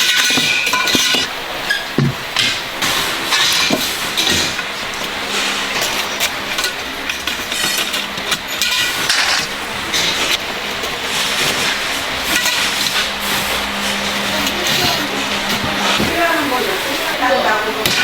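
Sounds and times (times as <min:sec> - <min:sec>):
low machine hum: 0:01.3 - 0:18.0.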